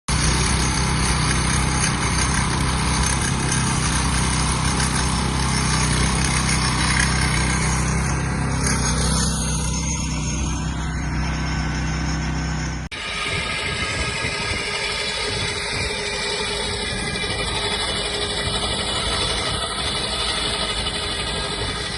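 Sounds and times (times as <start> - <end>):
machine engine hum: 0.1 - 21.9.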